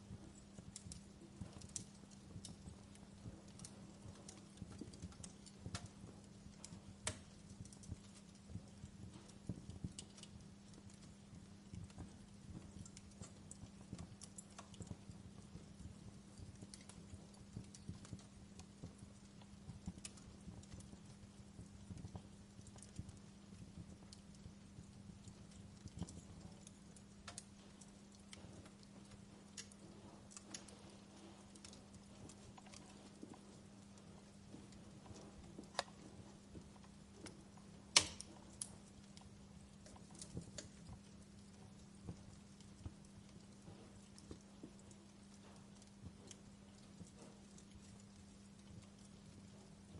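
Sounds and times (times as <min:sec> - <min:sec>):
campfire crackling and popping: 0:00.0 - 0:49.9
faint low hum: 0:00.0 - 0:49.9.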